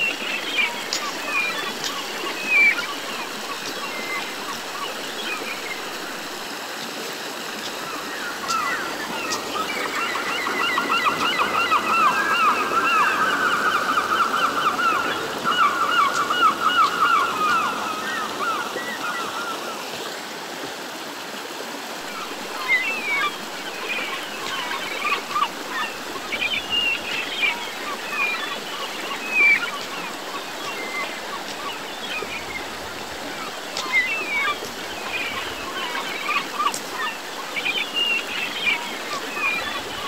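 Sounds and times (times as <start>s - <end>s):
stream flowing over stones: 0.0s - 40.0s.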